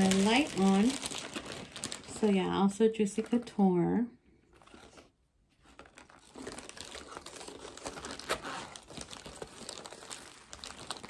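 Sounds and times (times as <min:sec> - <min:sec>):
packaging crinkling and rustling: 0:00.0 - 0:03.5, 0:04.5 - 0:11.0.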